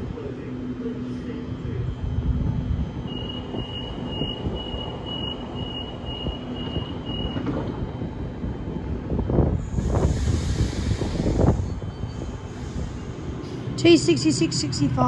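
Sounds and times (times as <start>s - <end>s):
steady low rumble: 0.0s - 7.1s, 7.8s - 15.0s.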